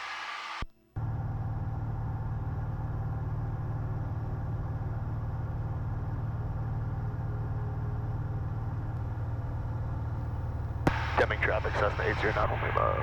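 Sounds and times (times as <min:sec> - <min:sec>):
light aircraft engine and propeller: 0:01.0 - 0:13.0.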